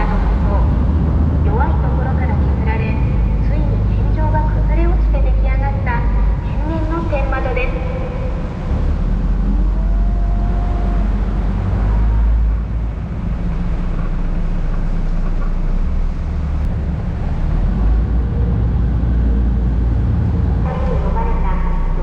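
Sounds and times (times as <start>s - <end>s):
boat engine rumbling: 0.0s - 22.0s.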